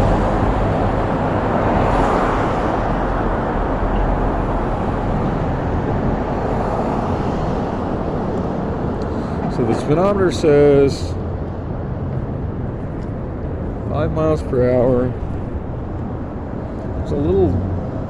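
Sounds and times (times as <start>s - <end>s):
scooter road noise: 0.0s - 9.9s, 11.2s - 18.0s
passing traffic: 0.0s - 18.0s.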